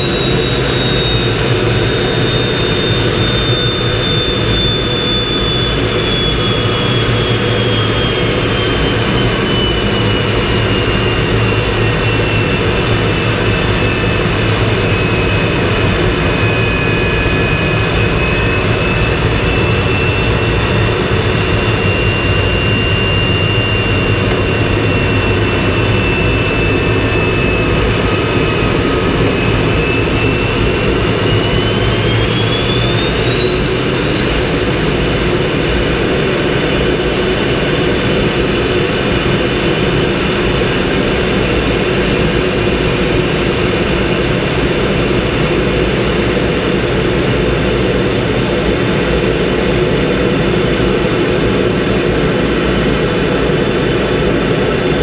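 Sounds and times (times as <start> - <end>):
jet engine roar with whine: 0.0 - 55.0.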